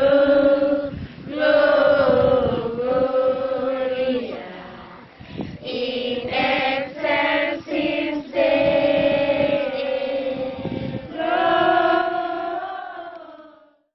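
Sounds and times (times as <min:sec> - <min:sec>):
choir singing: 0:00.0 - 0:13.8.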